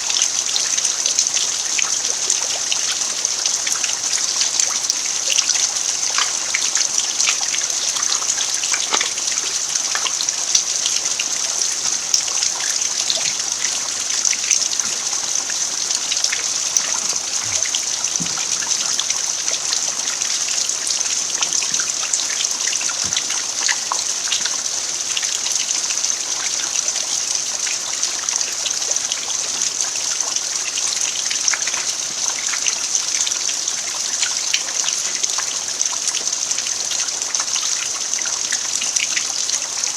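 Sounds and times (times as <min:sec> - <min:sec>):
rain on dirt: 0:00.0 - 0:39.9.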